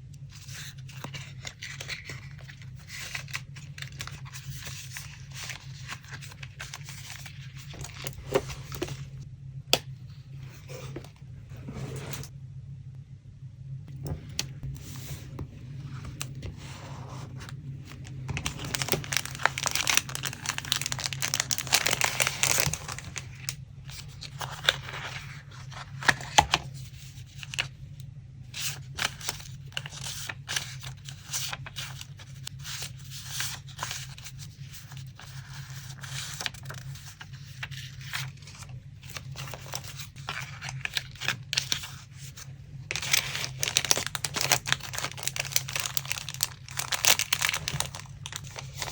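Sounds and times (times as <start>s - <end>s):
paper crinkling and rustling: 0.3s - 9.2s, 14.1s - 27.8s, 28.5s - 48.9s.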